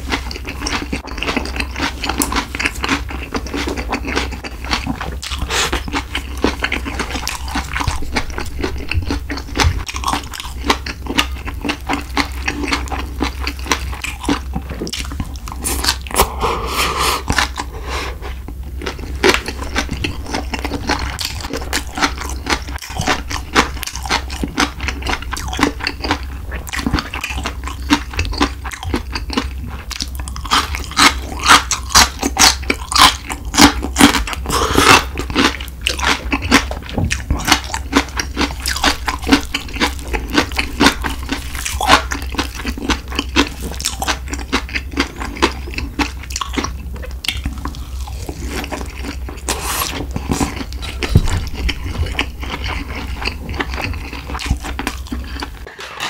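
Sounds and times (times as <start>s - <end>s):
steady low hum: 0.0s - 56.0s
wet chewing and crunching: 0.0s - 56.0s.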